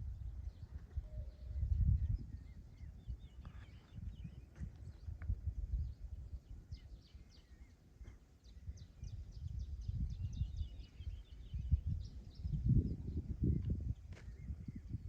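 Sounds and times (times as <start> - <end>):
gusting wind rumble: 0.0 - 7.4, 8.4 - 15.0
small birds chirping: 0.1 - 15.0.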